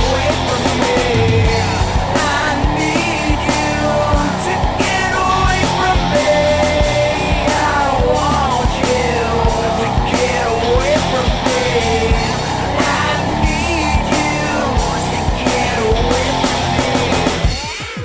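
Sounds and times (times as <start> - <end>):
electric guitar: 0.0 - 18.0
loud drums: 0.0 - 18.0
person singing: 0.0 - 18.0
rock music: 0.0 - 18.0.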